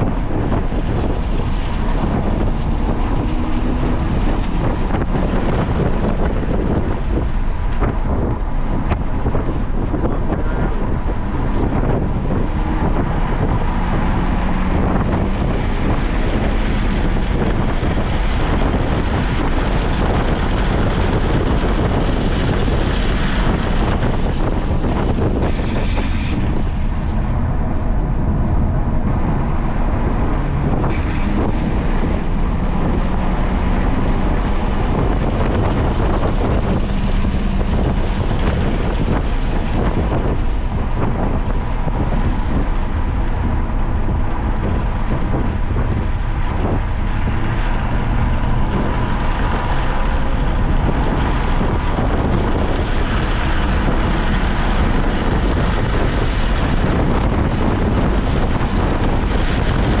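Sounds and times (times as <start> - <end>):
car engine and road noise: 0.0 - 60.0
wind noise on microphone: 0.0 - 60.0.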